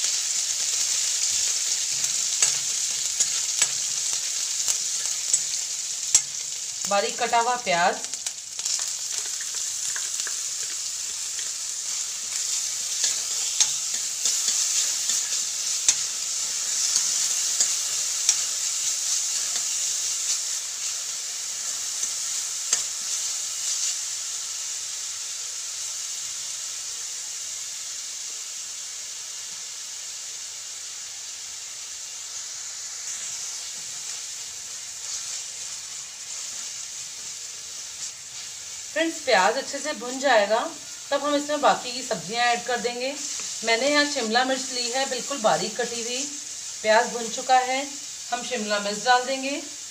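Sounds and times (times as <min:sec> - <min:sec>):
onion sizzling in hot oil: 0:00.0 - 0:49.9.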